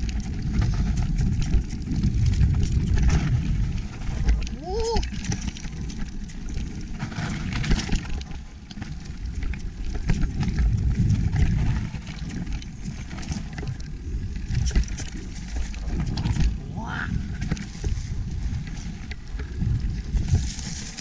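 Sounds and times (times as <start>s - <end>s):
bike clicking and rattling: 0.0s - 21.0s
rumble of wind and tyres: 0.0s - 21.0s.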